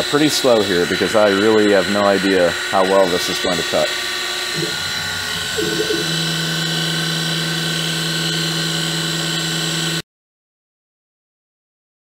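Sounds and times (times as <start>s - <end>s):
milling machine motor humming: 0.0s - 10.0s.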